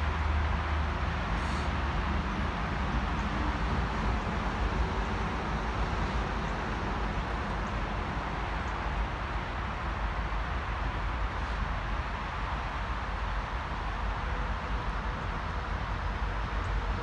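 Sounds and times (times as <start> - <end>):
outdoor background rumble and hiss: 0.0 - 17.0.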